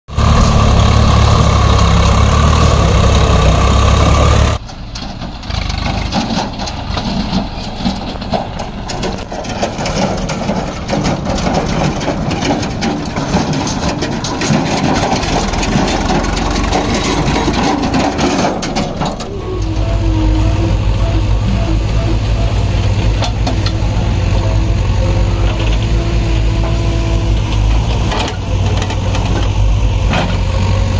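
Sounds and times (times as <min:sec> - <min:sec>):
tractor diesel engine running: 0:00.1 - 0:30.9
trailer rattling: 0:00.1 - 0:30.9.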